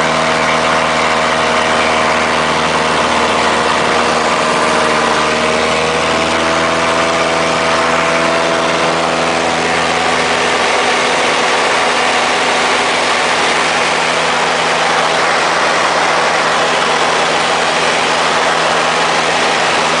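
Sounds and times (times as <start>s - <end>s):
aircraft engine and propeller: 0.0s - 20.0s
rush of airflow: 0.0s - 20.0s.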